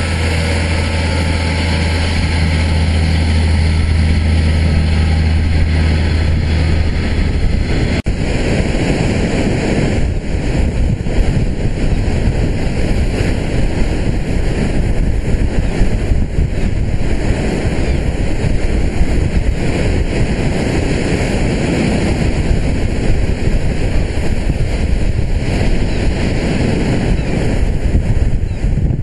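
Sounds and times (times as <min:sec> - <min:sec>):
heavy surf breaking on shore: 0:00.0 - 0:29.0
storm wind buffeting microphone: 0:00.0 - 0:29.0.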